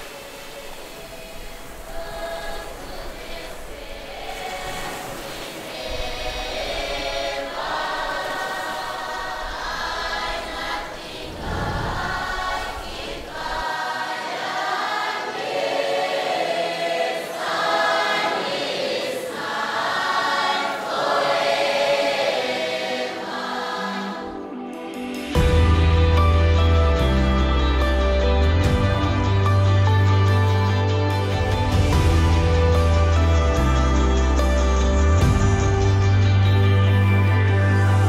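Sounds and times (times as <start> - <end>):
choir singing: 0.0 - 38.0.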